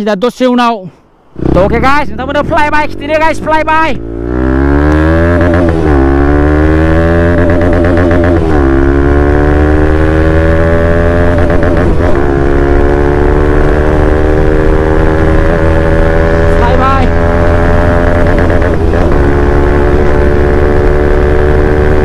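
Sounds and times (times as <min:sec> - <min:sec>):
motorcycle engine accelerating: 0:01.2 - 0:22.0.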